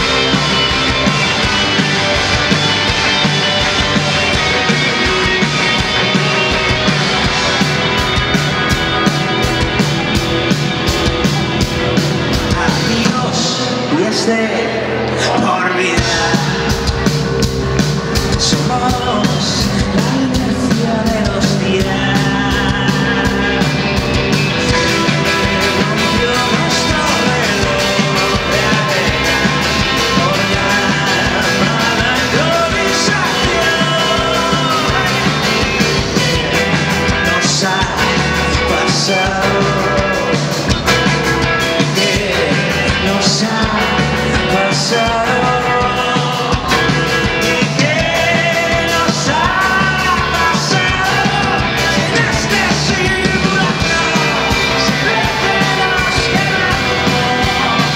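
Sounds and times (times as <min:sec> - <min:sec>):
live rock band playing: 0:00.0 - 0:57.9
person singing: 0:00.0 - 0:57.9.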